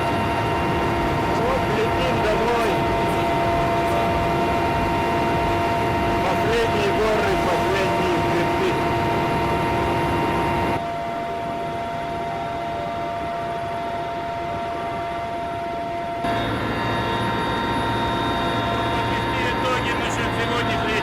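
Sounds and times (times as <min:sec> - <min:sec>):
aircraft engine drone with whine: 0:00.0 - 0:21.0.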